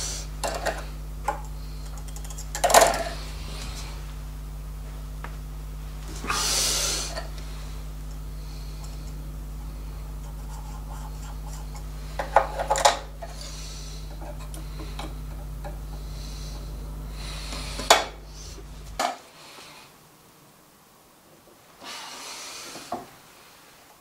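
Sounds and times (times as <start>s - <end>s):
steady low hum: 0.0s - 21.8s.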